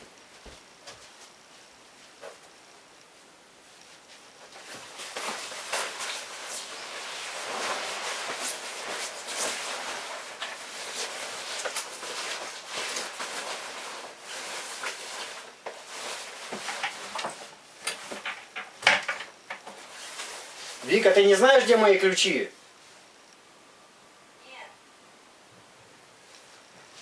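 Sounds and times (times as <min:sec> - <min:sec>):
rustling: 0:00.0 - 0:23.4.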